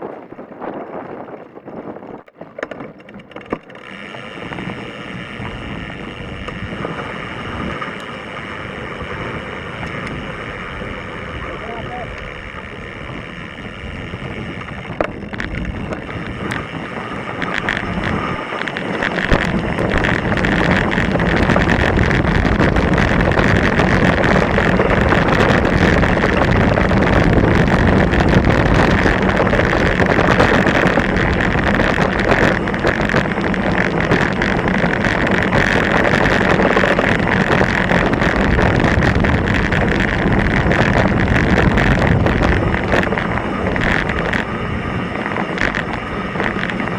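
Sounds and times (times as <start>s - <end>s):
bike clicks and rattles: 0.0s - 46.9s
wind buffeting microphone: 0.0s - 46.9s.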